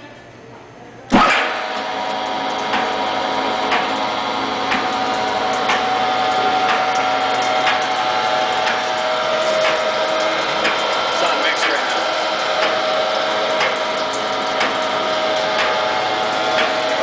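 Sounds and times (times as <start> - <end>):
meat grinder motor humming: 1.2 - 17.0.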